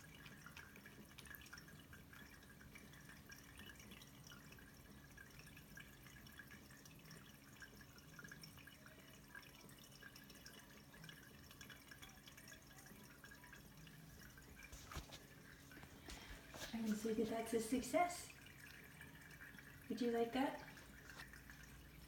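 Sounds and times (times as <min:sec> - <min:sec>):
pump humming: 0:00.0 - 0:22.0
water dripping and trickling: 0:00.0 - 0:22.0.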